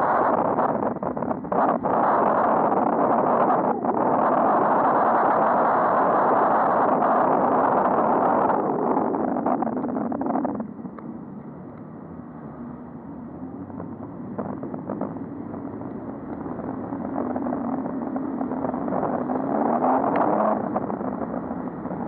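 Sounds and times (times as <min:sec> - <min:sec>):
road traffic: 0:00.0 - 0:22.0
vehicle engine accelerating: 0:00.0 - 0:22.0
wind noise on microphone: 0:00.0 - 0:22.0.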